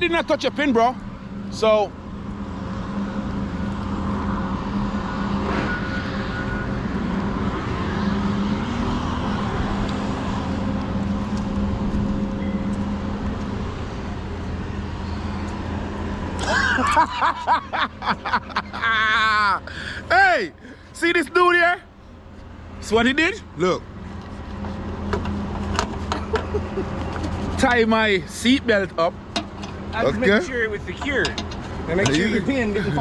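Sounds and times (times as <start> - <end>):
truck engine drone from cab: 0.0 - 33.0.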